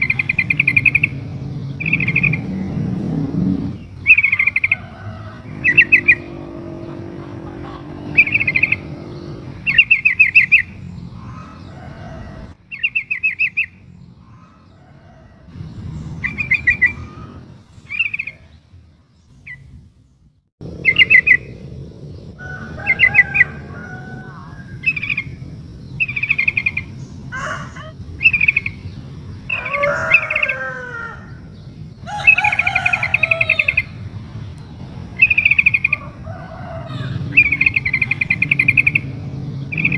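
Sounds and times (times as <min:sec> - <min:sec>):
bird chattering and warbling: 0:00.0 - 0:18.5, 0:22.6 - 0:30.7, 0:31.4 - 0:36.3, 0:36.9 - 0:39.9.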